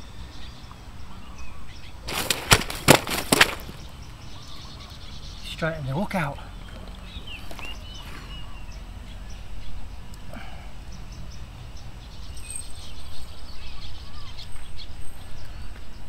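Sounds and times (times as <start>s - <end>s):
insect calls: 0.0s - 15.0s.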